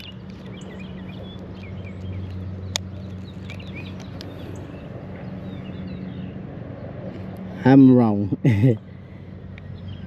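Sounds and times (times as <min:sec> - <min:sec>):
small birds chirping: 0:00.0 - 0:07.9, 0:08.6 - 0:10.0
steady low hum: 0:00.0 - 0:10.0.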